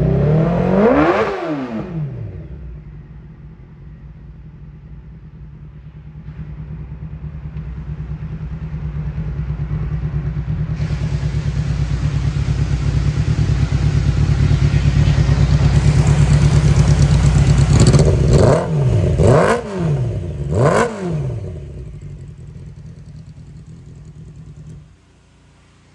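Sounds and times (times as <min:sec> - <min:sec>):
motorcycle engine revving: 0:00.0 - 0:03.6, 0:04.4 - 0:25.9
motorcycle engine idling: 0:02.0 - 0:25.9.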